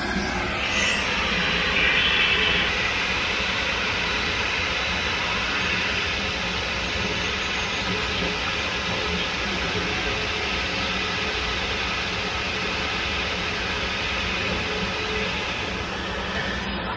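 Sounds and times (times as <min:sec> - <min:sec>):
jet engines hissing: 0:00.0 - 0:16.9
tug engine drone: 0:00.0 - 0:16.9.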